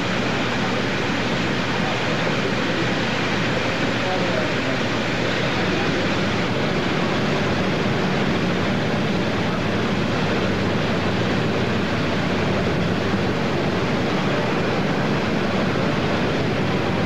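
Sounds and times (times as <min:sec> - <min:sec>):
motorboat rushing noise: 0:00.0 - 0:17.0.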